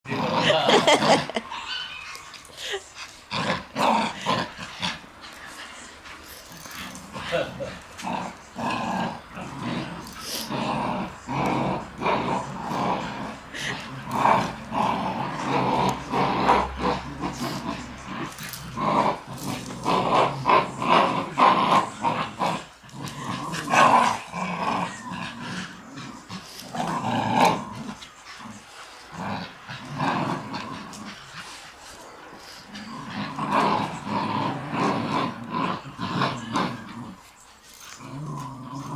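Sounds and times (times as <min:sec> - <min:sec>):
dogs growling in play: 0:00.0 - 0:38.9.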